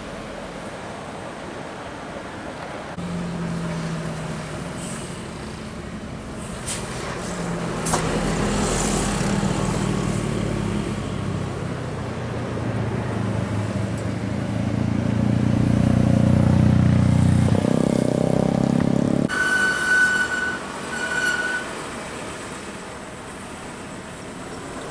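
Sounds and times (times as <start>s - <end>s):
heavy vehicle engine drone: 2.8s - 24.9s.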